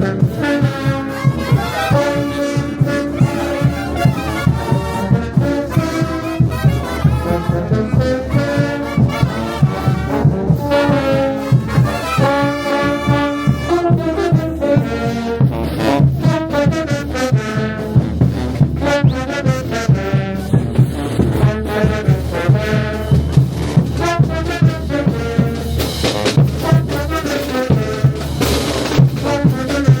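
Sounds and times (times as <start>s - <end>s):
brass band playing: 0.0s - 30.0s
drum beat: 0.0s - 30.0s.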